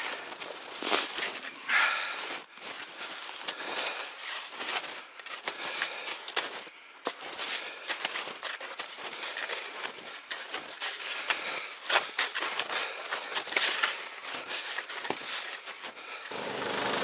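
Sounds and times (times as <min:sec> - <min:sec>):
skis crunching over snow: 0:00.0 - 0:17.0.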